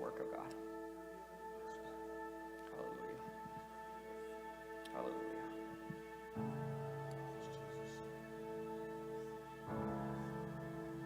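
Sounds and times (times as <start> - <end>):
soft instrumental worship music: 0.0 - 11.0.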